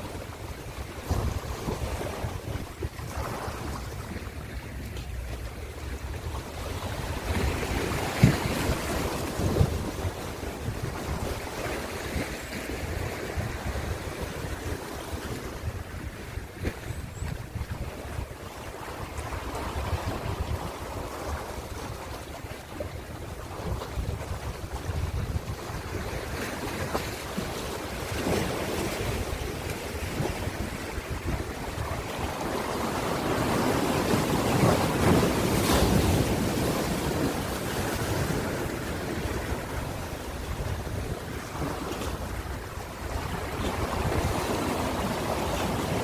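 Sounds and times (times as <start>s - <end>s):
ocean waves washing: 0.0s - 46.0s
wind buffeting microphone: 0.0s - 46.0s.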